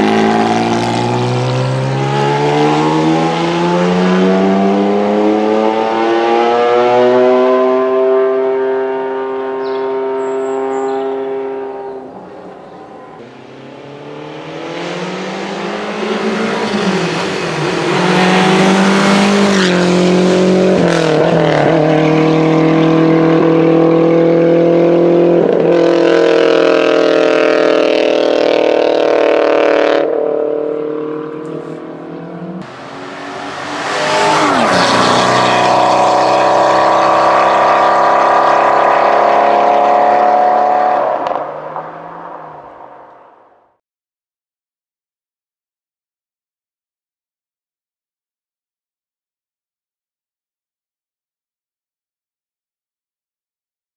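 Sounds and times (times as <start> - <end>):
racing car engines at high revs: 0.0 - 43.4.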